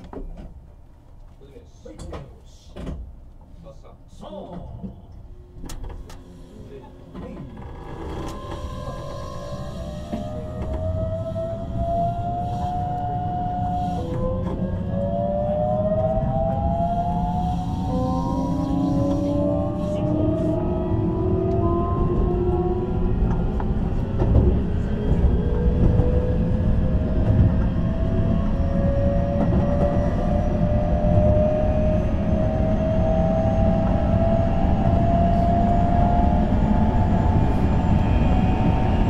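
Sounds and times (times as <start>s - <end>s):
wheels rumbling on rail: 4.3s - 39.0s
electric train motor whine: 7.5s - 39.0s.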